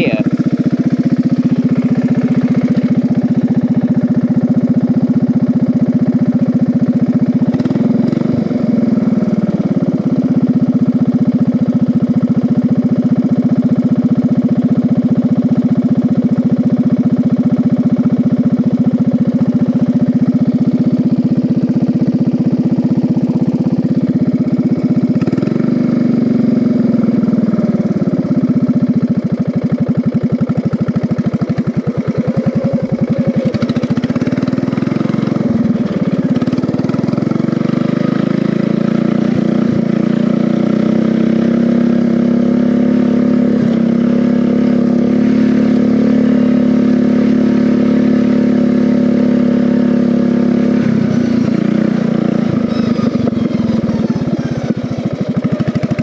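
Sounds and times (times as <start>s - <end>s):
riding mower engine running hard: 0.0s - 56.0s.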